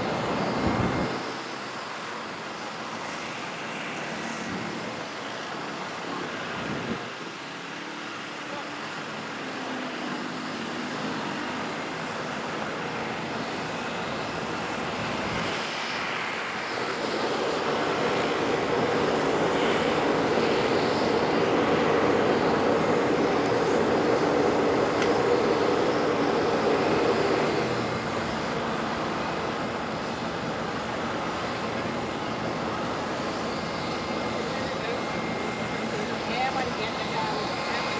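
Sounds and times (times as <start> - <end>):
jet engine rushing hum: 0.0 - 37.9.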